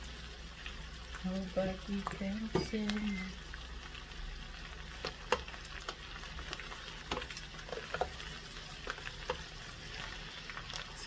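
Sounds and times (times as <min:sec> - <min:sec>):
frying sizzle: 0:00.0 - 0:11.0.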